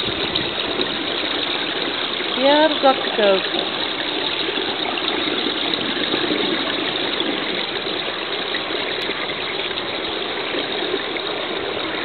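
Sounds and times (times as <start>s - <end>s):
water running into pool: 0.0s - 12.0s.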